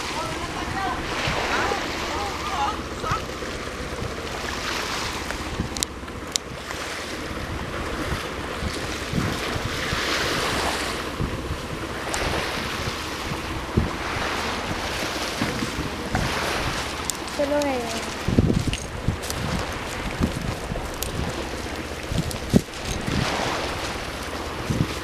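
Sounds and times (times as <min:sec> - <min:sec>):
surf washing up beach: 0:00.0 - 0:25.0
wind buffeting microphone: 0:00.0 - 0:25.0.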